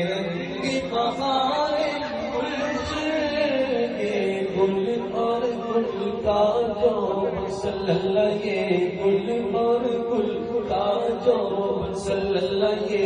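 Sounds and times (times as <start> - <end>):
men chanting devotional song: 0.0 - 13.0.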